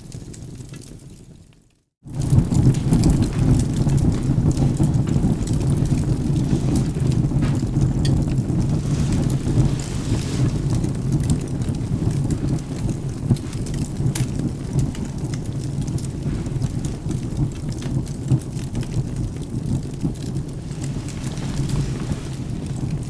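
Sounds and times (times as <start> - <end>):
wood fire crackling and popping: 0.0 - 23.0
rain rumble: 2.1 - 23.0
distant thunder: 2.2 - 23.0.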